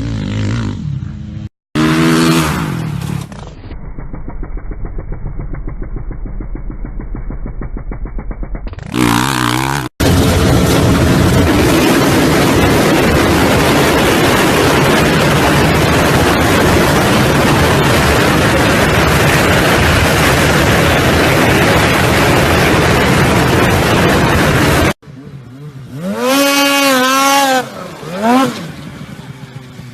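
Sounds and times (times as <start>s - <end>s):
motorcycle engines running hard: 0.0s - 29.9s.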